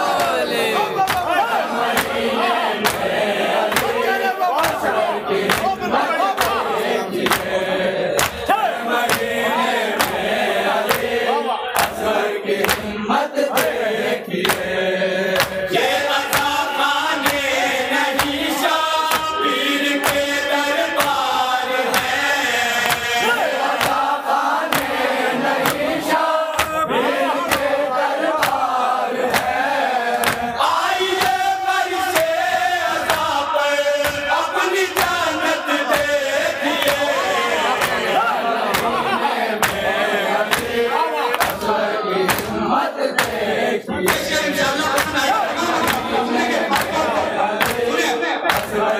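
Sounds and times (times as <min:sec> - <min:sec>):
chest-beating rhythm: 0:00.0 - 0:48.9
men chanting in unison: 0:00.0 - 0:48.9.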